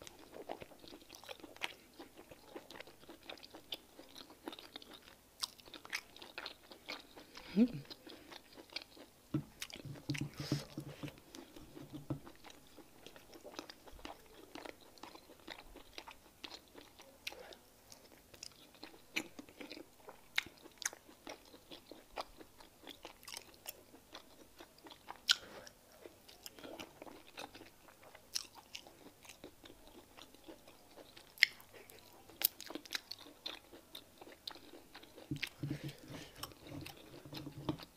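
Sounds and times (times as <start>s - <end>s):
chewing: 0.0s - 37.9s.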